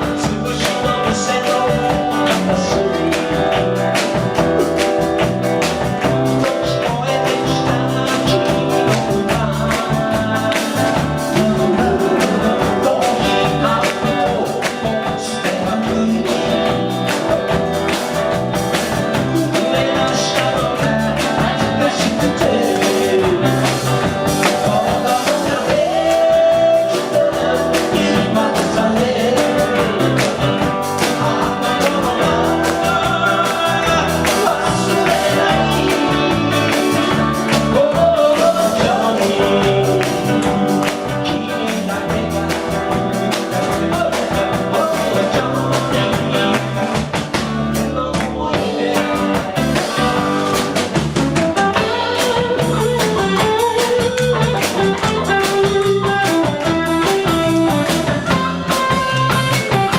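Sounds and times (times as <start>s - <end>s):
person singing: 0.0s - 4.9s, 6.0s - 50.9s, 51.5s - 59.9s
bass guitar: 0.0s - 59.9s
drum kit: 0.0s - 59.9s
electric guitar: 0.0s - 59.9s.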